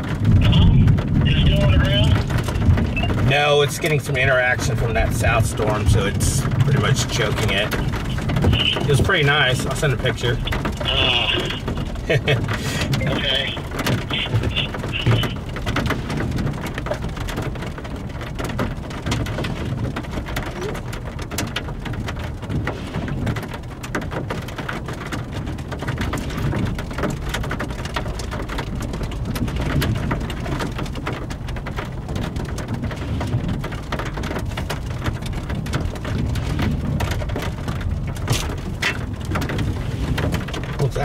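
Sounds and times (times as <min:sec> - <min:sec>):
rain drops pattering: 0:00.0 - 0:41.0
steady low rumble: 0:00.0 - 0:41.0.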